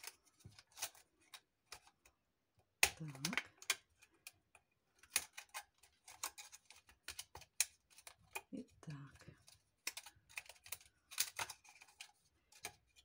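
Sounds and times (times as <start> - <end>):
plastic strips clicking and crackling: 0.0 - 13.0.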